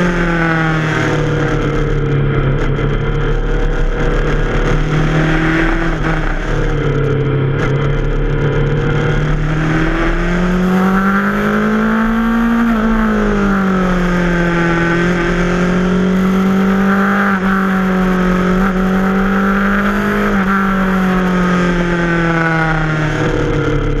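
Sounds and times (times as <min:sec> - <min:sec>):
motorcycle engine under way: 0:00.0 - 0:24.0.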